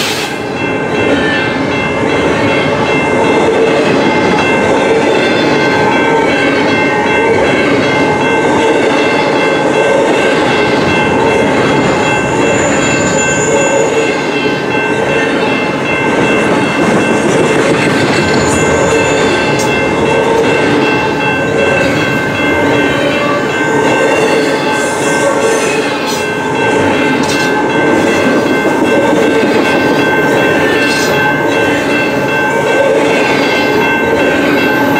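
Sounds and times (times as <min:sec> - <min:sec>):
train wheels clattering on rails: 0:00.0 - 0:34.9
high ringing tones: 0:00.4 - 0:34.9.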